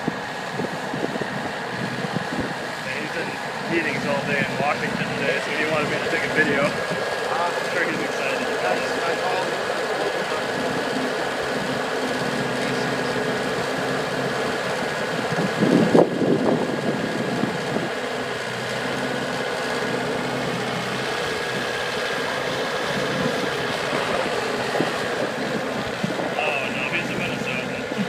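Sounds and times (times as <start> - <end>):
skid steer engine idling: 0.0 - 28.0.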